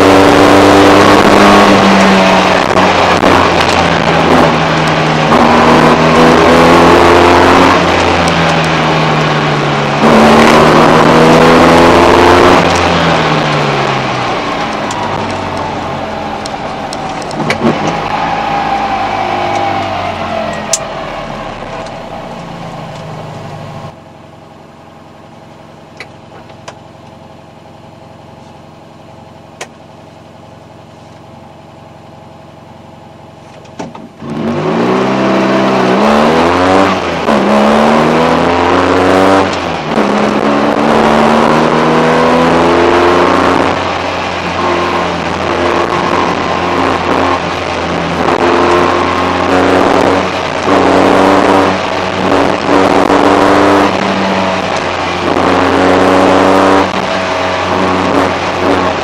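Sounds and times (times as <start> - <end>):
car engine revving and idling: 0.0 - 59.0.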